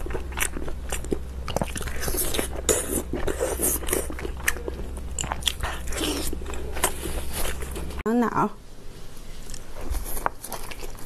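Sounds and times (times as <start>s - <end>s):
person chewing food: 0.0s - 8.0s, 9.4s - 11.0s.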